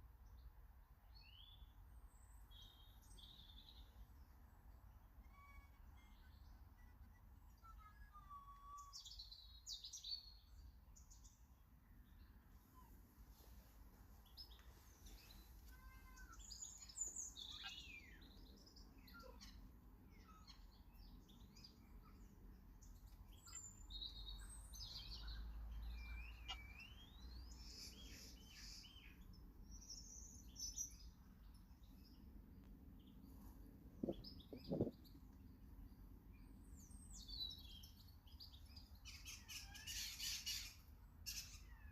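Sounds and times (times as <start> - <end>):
small birds chirping: 1.1 - 41.9.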